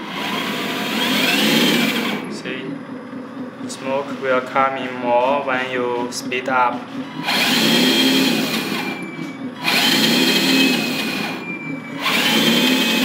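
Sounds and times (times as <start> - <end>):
simulated truck engine revving: 0.0 - 13.0.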